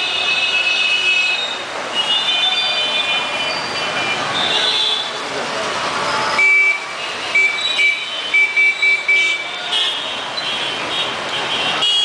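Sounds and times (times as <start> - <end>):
vehicle horns beeping: 0.0 - 5.2, 6.2 - 12.0
busy street traffic: 0.0 - 12.0.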